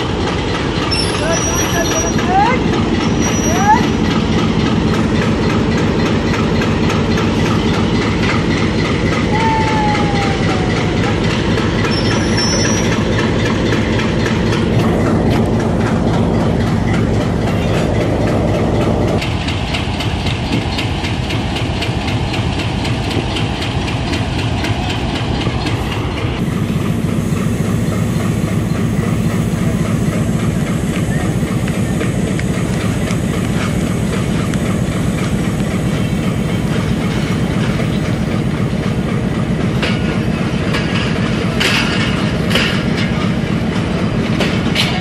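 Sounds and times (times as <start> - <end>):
diesel locomotive running: 0.0 - 45.0
train wheels clattering: 0.0 - 45.0.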